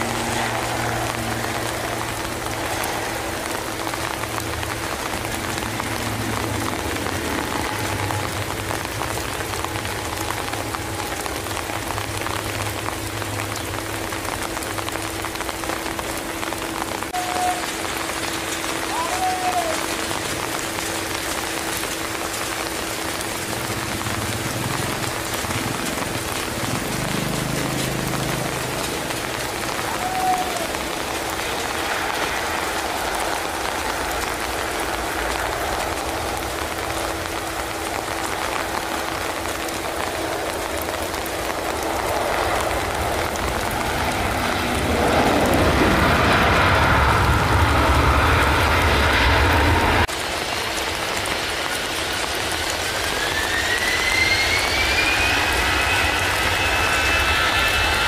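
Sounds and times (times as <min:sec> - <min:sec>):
heavy rain: 0:00.0 - 0:58.0
jet engines of landing airliner: 0:00.0 - 0:58.0.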